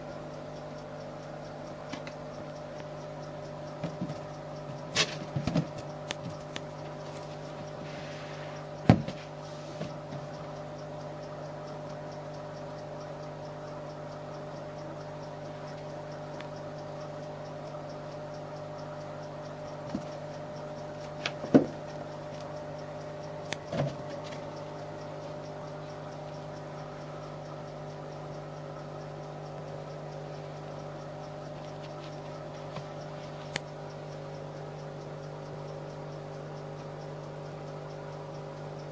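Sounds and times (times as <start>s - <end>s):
low background hum: 0.0s - 38.9s.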